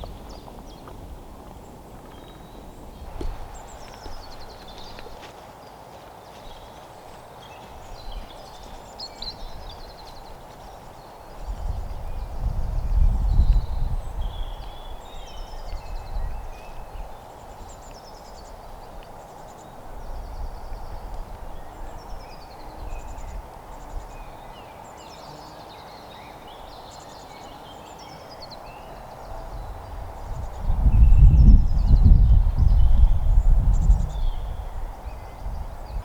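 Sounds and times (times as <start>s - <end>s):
wind buffeting microphone: 0.0s - 5.4s, 6.3s - 24.7s, 28.4s - 36.0s
songbirds chirping and singing: 0.0s - 36.0s.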